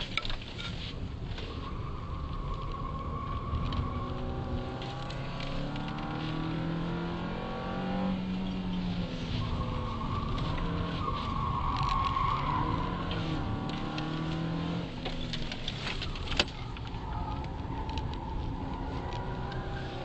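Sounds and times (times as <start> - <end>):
car engine from inside cabin: 2.9 - 12.0, 12.6 - 20.0.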